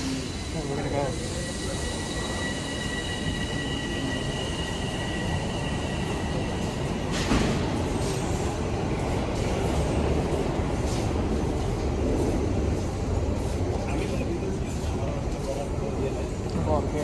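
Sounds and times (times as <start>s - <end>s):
low station rumble: 0.0s - 17.0s
subway train whine: 0.0s - 17.0s.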